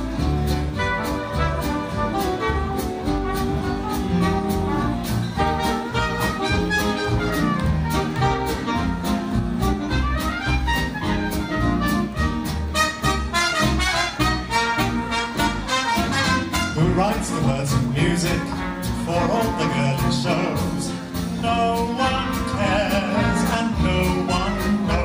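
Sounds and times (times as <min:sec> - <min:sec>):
dance orchestra playing jazz: 0:00.0 - 0:25.0.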